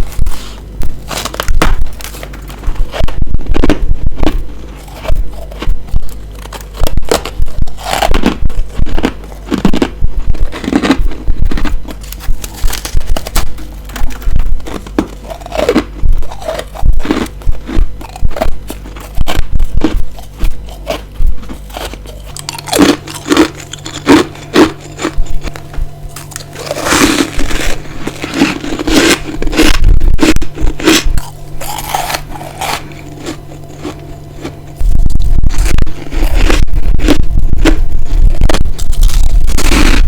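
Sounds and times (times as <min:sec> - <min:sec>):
biting and chewing ice: 0:00.0 - 0:40.0.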